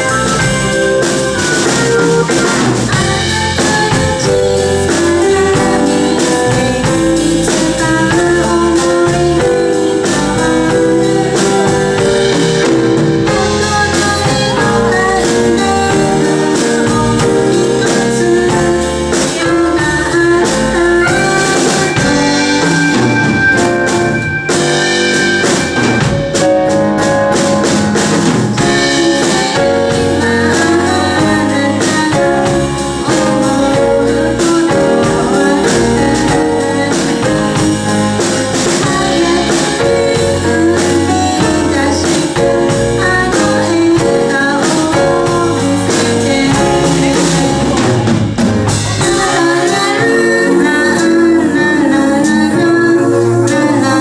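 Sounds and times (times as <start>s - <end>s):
bass guitar: 0.0s - 54.0s
drum kit: 0.0s - 54.0s
guitar: 0.0s - 54.0s.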